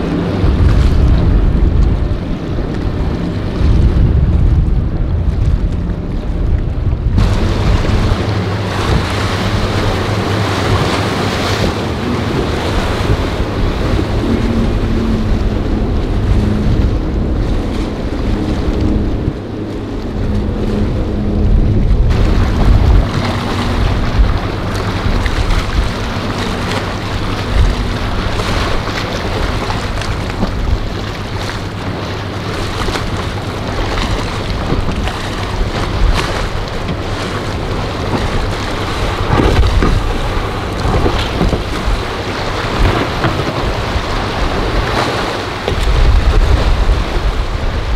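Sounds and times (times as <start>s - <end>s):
outboard motors running: 0.0s - 47.9s
surf breaking: 0.0s - 47.9s
wind noise on microphone: 0.0s - 47.9s.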